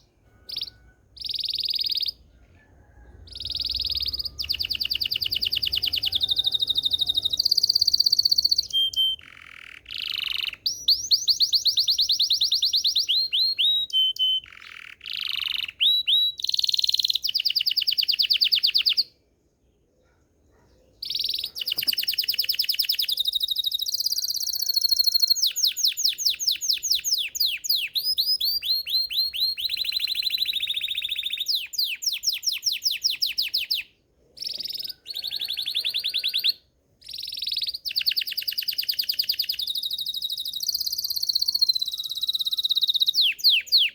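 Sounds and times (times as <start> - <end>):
canary singing trills: 0.0 - 19.1, 20.6 - 43.9.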